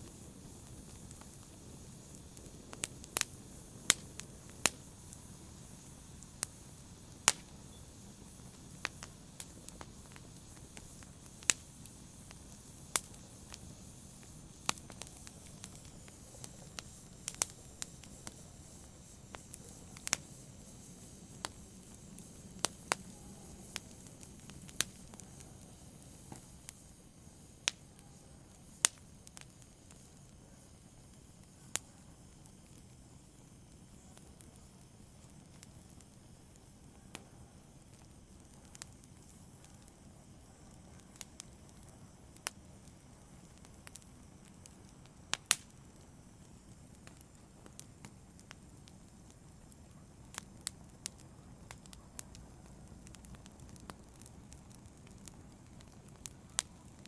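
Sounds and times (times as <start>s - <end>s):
fire popping and snapping: 0.0s - 57.0s
soft hiss of fire: 0.0s - 57.0s.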